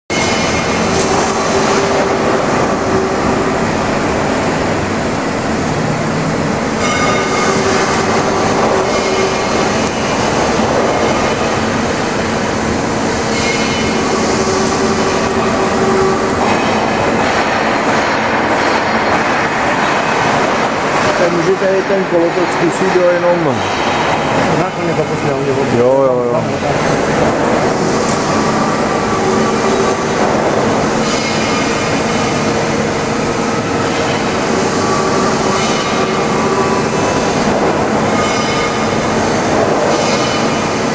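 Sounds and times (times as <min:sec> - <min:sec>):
lathe running with whine: 0:00.1 - 0:40.9.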